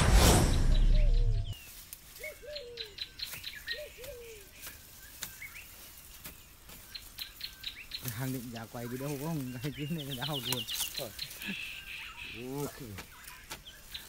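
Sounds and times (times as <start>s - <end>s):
birds chirping and whistling: 0.0s - 14.0s
twigs snapping and brush rustling: 1.6s - 14.0s.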